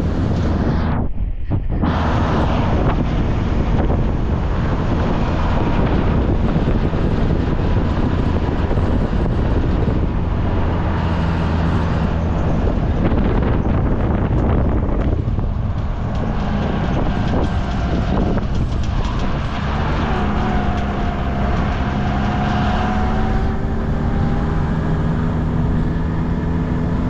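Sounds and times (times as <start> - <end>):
truck engine running: 0.0 - 27.0
wind buffeting microphone: 0.0 - 27.0.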